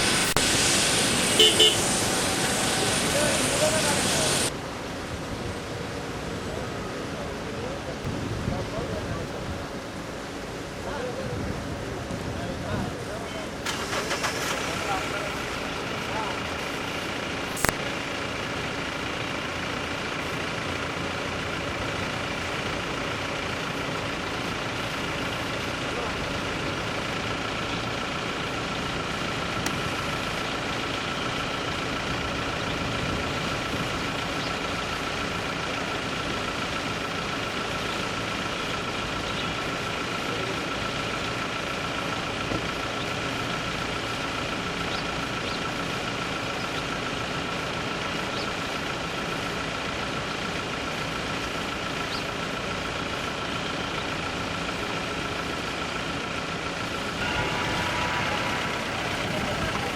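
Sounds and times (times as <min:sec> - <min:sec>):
helicopter engine running: 0:00.0 - 0:07.8, 0:13.6 - 0:59.9.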